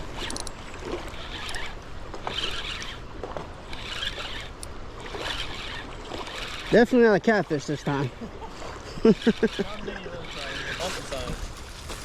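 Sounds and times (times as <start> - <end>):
fishing reel whirring: 0.0 - 11.3.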